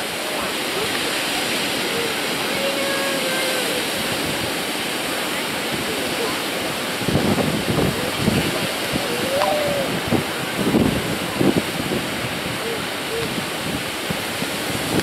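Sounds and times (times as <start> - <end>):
surf breaking on beach: 0.0 - 15.0.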